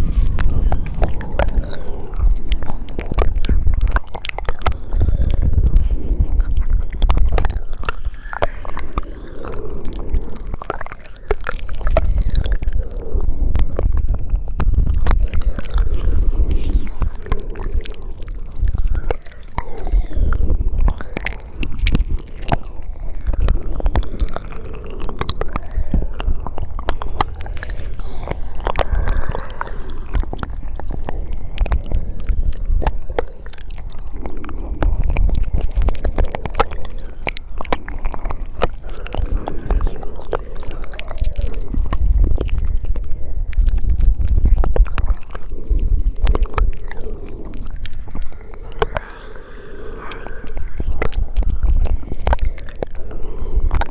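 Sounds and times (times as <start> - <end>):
low rumble: 0.0 - 53.9
wet mouth clicks and smacks: 0.0 - 53.9.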